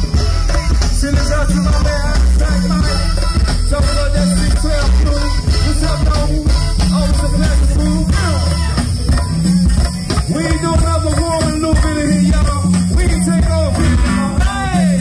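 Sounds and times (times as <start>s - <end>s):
live band over pa speakers: 0.0s - 15.0s.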